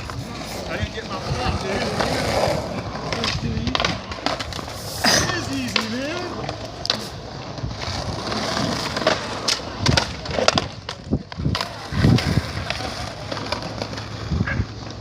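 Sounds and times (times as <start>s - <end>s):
skateboard wheels rolling: 0.0s - 15.0s
skateboard knocking on ground: 1.7s - 15.0s.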